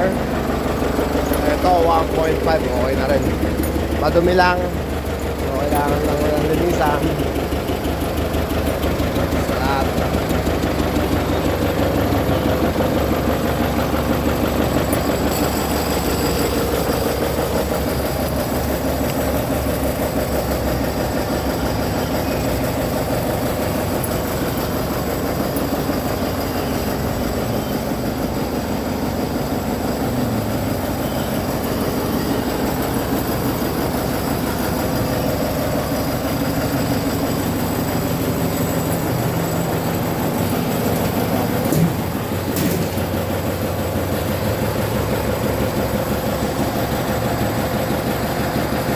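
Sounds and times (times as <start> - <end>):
forklift engine idling: 0.0 - 48.9.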